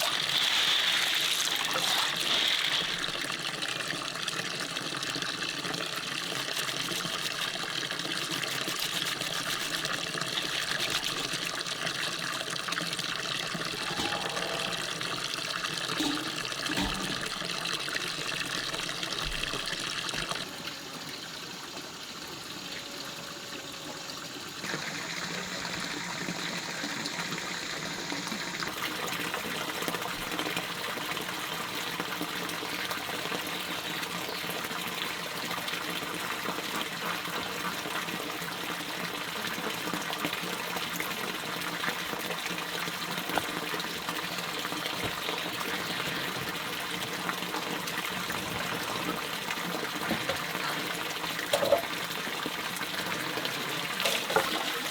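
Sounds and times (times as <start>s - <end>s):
stream water trickling: 0.0s - 23.1s, 23.8s - 54.9s.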